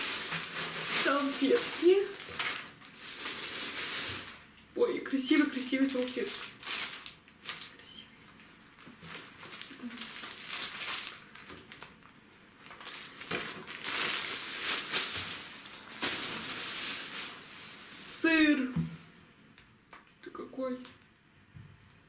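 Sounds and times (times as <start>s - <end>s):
plastic packaging crinkling: 0.0s - 18.2s
plastic shopping bag rustling: 0.0s - 19.1s.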